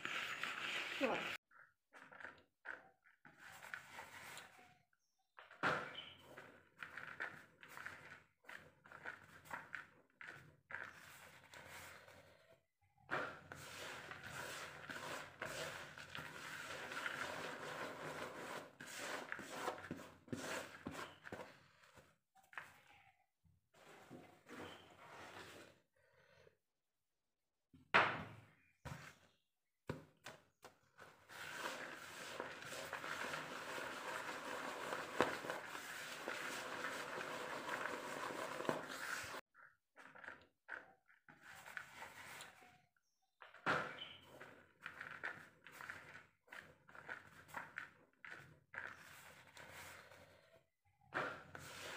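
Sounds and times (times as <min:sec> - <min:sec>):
hand scraping flour mixture: 0:00.0 - 0:22.8, 0:23.8 - 0:25.8, 0:30.2 - 0:42.8, 0:44.0 - 0:51.9.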